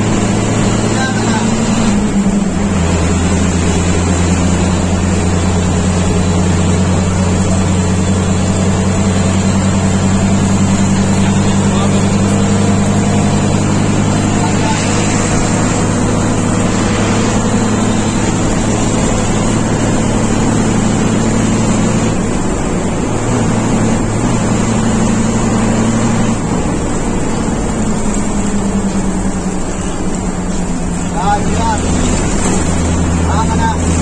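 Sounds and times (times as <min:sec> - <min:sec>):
bus engine humming: 0:00.0 - 0:34.0
road noise: 0:00.0 - 0:34.0.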